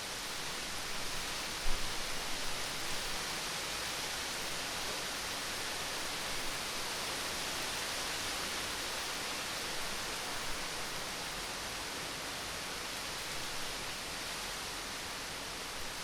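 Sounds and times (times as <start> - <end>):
steady rain hissing: 0.0 - 16.0.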